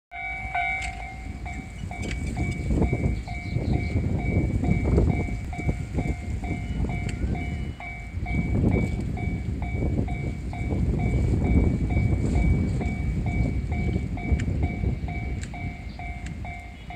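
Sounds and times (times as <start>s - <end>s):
railroad crossing alarm ringing: 0.1s - 16.9s
low rumbling: 0.2s - 16.9s.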